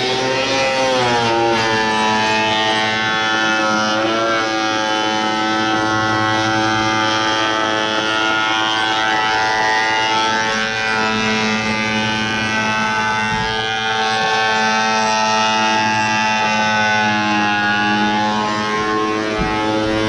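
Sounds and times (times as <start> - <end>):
thickness planer motor whine: 0.0 - 20.0.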